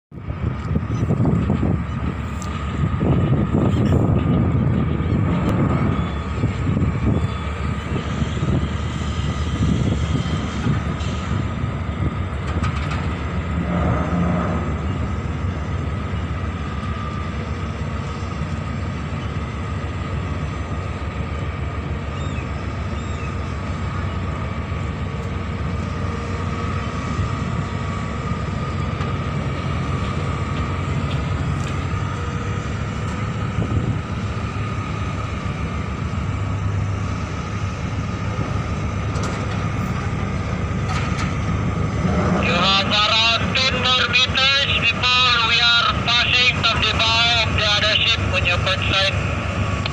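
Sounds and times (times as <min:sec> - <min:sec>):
engine drone with whine: 0:00.1 - 0:49.9.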